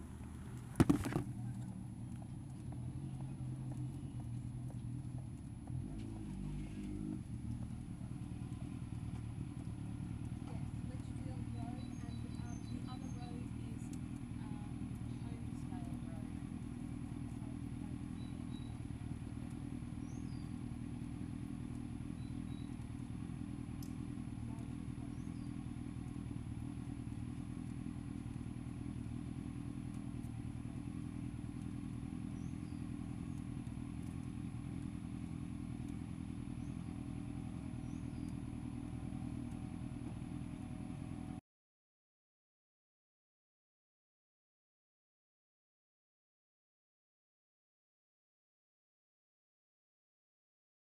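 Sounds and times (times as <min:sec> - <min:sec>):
motorcycle engine running: 0:00.0 - 0:41.4.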